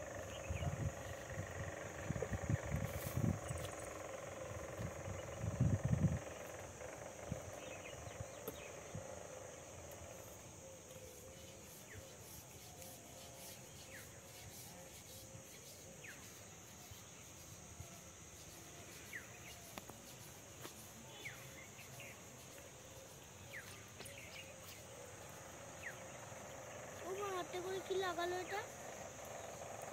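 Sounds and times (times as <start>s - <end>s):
insect hum: 0.0s - 29.9s.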